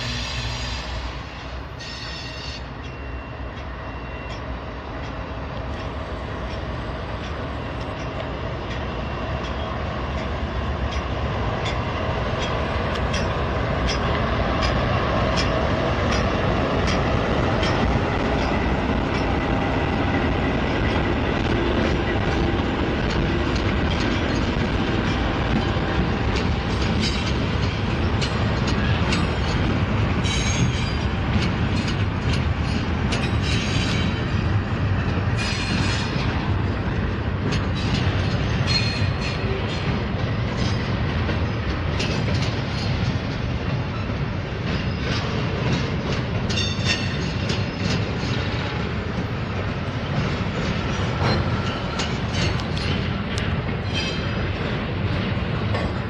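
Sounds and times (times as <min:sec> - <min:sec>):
diesel locomotive engine rumble: 0:00.0 - 0:56.0
train wheels clicking over rail joints: 0:00.0 - 0:56.0.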